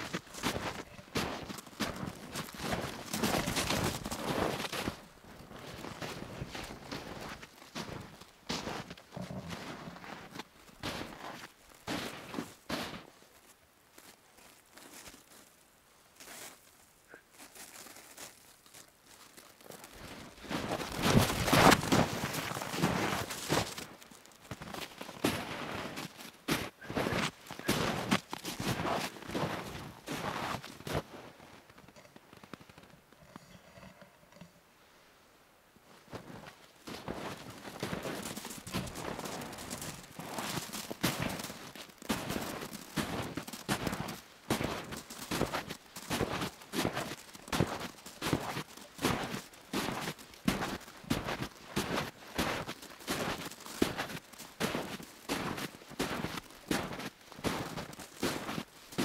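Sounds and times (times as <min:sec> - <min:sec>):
footsteps crunching in snow: 0:00.0 - 0:32.9, 0:35.9 - 0:59.0.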